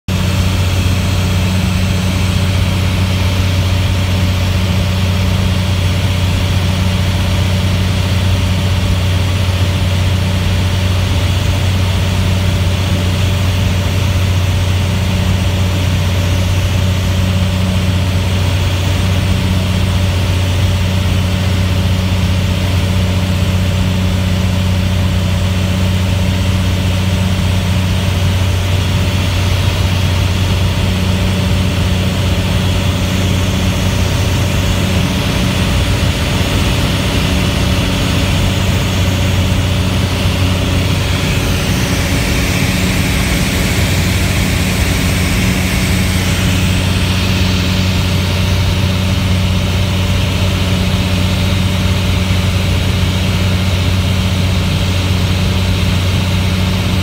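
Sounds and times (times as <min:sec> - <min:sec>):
aircraft engine hum in cabin: 0:00.1 - 0:57.0.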